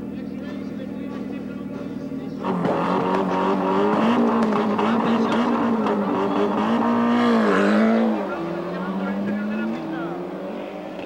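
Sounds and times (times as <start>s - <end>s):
engine crackles: 0.0s - 11.0s
rally car engines revving: 0.0s - 11.0s.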